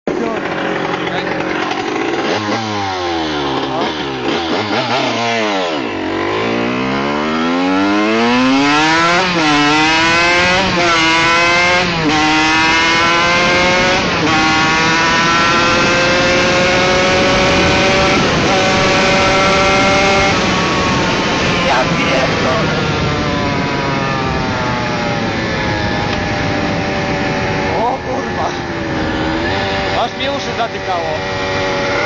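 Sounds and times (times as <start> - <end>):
motocross engine accelerating: 0.1 - 32.0.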